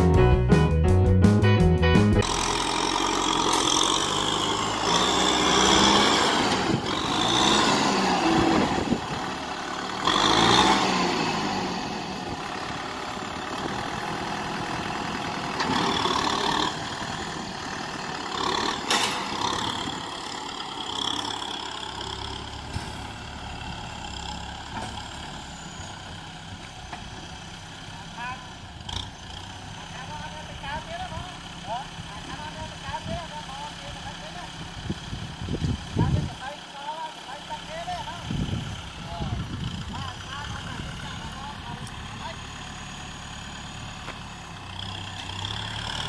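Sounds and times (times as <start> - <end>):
tractor diesel engine working: 0.0 - 46.0.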